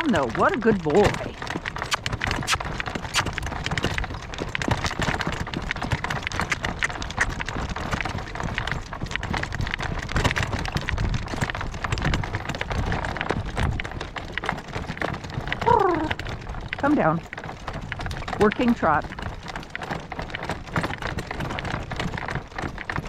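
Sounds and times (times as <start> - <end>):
horse hooves trotting on road: 0.0 - 23.0
wind rumbling on microphone: 0.0 - 23.0.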